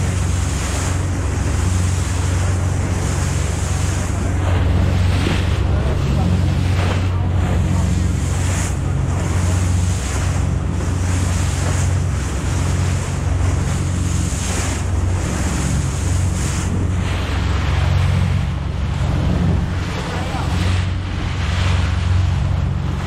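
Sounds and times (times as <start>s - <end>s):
boat engine humming: 0.0s - 23.0s
water rushing along hull: 0.0s - 23.0s
wind buffeting microphone: 0.0s - 23.0s.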